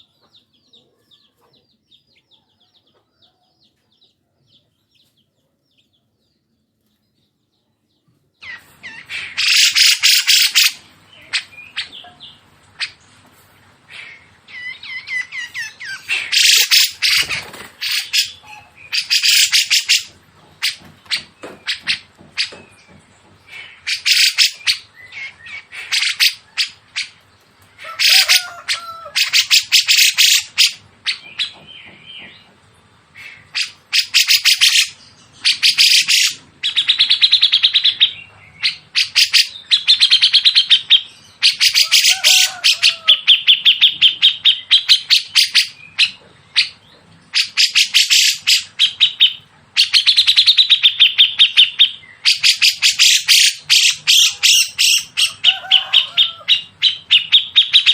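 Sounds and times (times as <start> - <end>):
songbirds rattling trills: 0.0 - 57.9.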